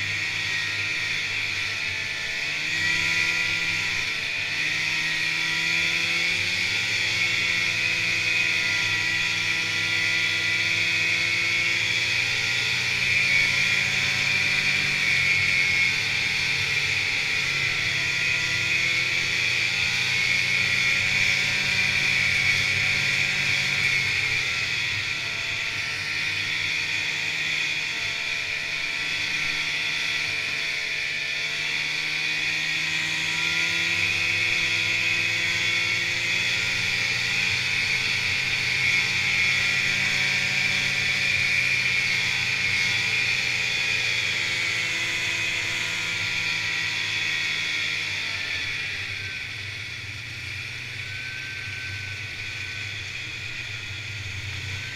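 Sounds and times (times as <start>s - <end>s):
snowmobile engine droning: 0.0s - 54.9s.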